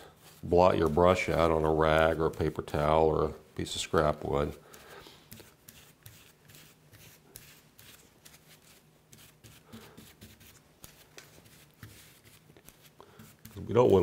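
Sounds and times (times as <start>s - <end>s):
paintbrush scrubbing: 0.0s - 14.0s.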